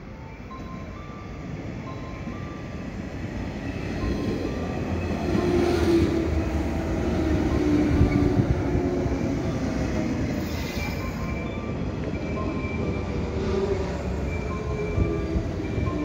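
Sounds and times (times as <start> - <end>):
train wheels rumbling on rails: 1.5 - 16.0.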